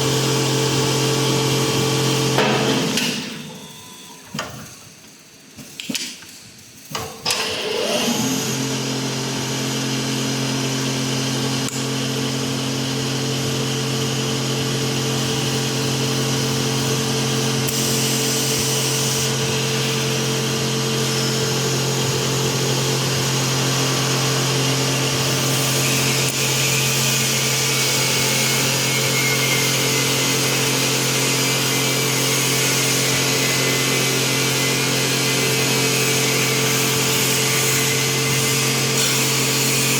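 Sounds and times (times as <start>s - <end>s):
wood lathe motor hum: 7.5s - 39.9s.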